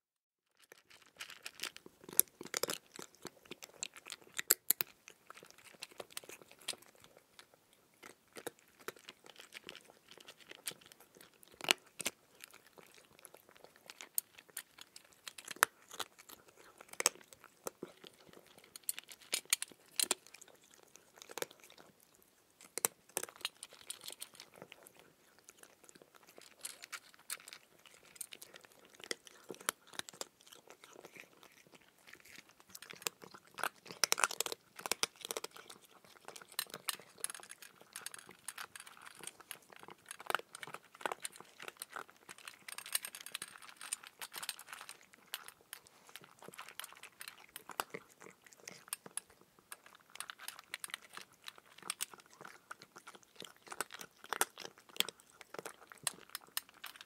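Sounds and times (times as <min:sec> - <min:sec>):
person chewing cucumber: 0:00.6 - 0:57.0.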